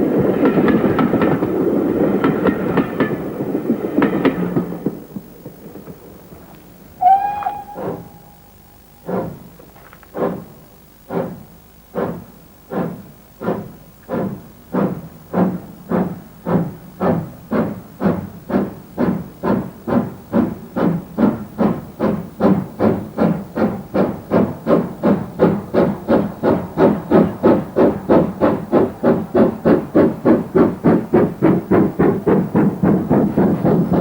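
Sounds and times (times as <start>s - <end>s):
steam locomotive exhaust chuffing: 0.0s - 34.0s.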